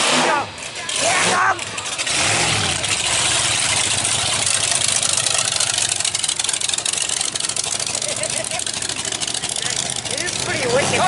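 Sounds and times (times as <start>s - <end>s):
car engine pulsing exhaust rumble: 0.0s - 11.0s.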